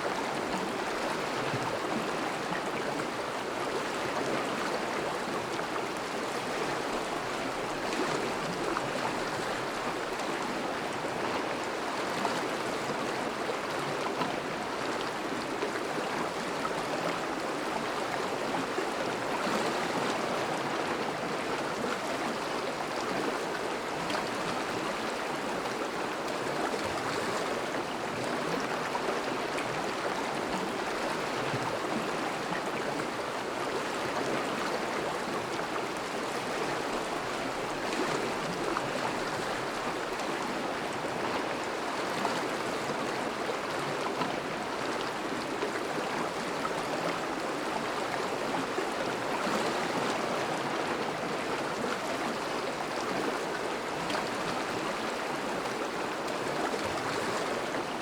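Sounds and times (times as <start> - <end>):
river flowing: 0.0 - 58.0.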